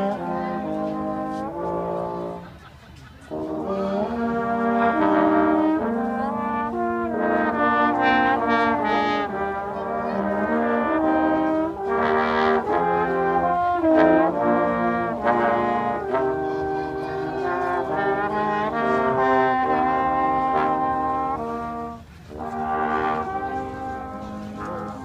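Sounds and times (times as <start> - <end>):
brass instruments playing in harmony: 0.0 - 25.0.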